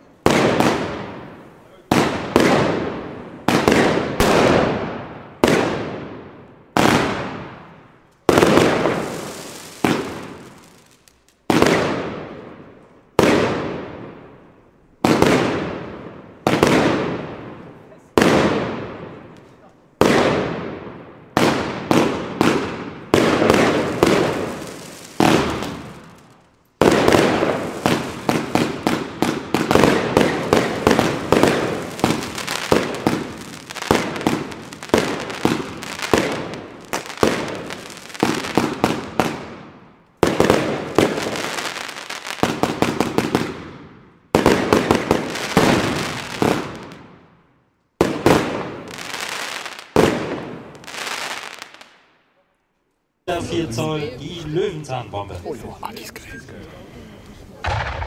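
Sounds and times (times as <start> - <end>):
fireworks banging and crackling: 0.0 - 52.1, 57.3 - 58.0.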